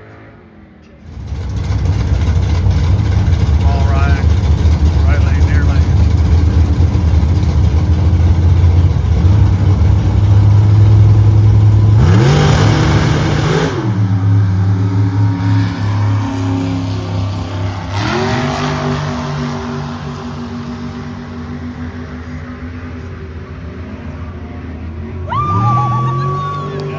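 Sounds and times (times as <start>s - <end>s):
race car engine accelerating: 1.0s - 26.9s.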